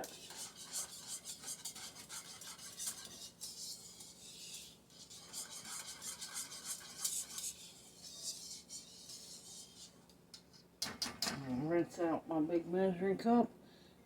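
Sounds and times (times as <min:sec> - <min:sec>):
utensil scraping in a pan: 0:00.0 - 0:11.8.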